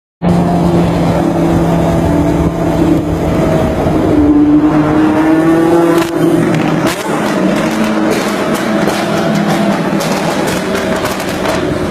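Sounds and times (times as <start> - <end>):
sports car engine in tunnel: 0.2 - 11.9.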